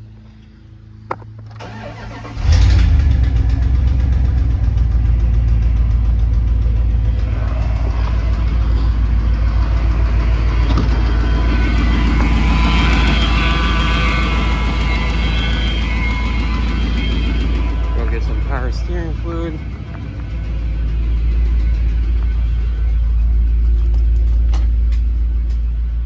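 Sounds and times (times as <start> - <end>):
engine cranking and idling: 1.1 - 26.0.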